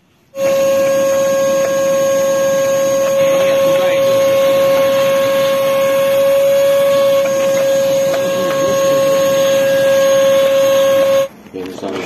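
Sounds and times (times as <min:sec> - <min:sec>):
vacuum cleaner running: 0:00.3 - 0:11.3.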